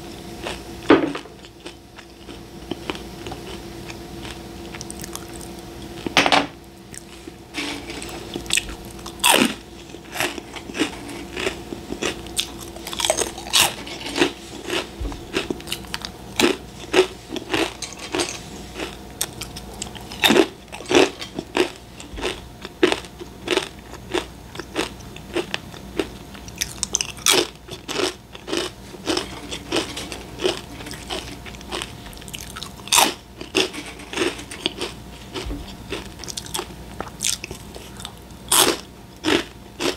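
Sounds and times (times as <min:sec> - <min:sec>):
person chewing crunchy crackers: 0:00.4 - 0:06.2, 0:06.8 - 0:39.9.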